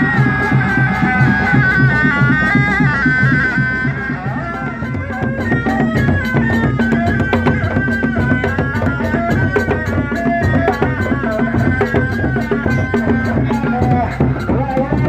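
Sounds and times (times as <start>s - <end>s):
drums beating fast rhythm: 0.0s - 15.0s
reedy wind instrument melody: 0.0s - 15.0s.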